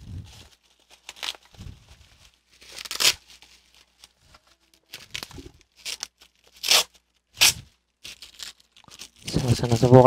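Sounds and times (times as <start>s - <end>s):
plastic packaging crinkling and tearing: 0.0s - 10.0s.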